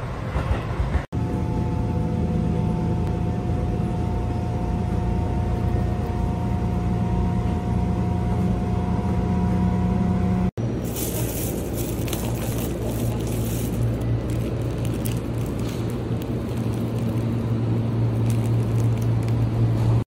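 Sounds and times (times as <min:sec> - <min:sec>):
low vehicle rumble: 0:01.2 - 0:20.0
motor hum: 0:01.2 - 0:20.0.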